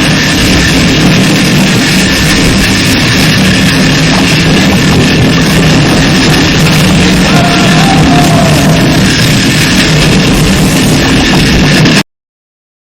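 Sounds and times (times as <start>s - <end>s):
harsh noise music: 0.0s - 12.0s.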